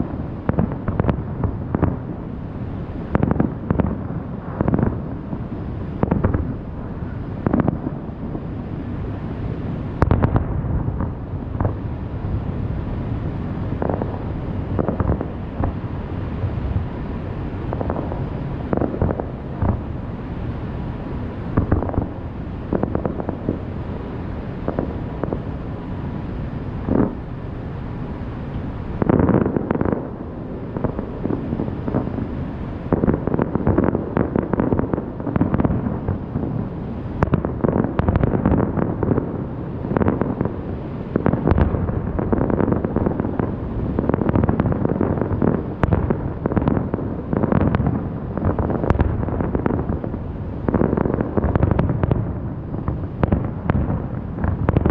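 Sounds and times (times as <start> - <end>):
fireworks booming and crackling: 0.0 - 54.9.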